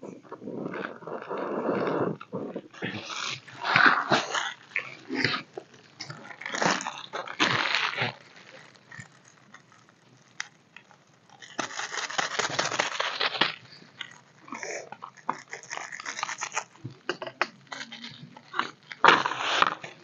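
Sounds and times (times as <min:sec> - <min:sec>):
people chewing and crunching food: 0:00.0 - 0:20.0.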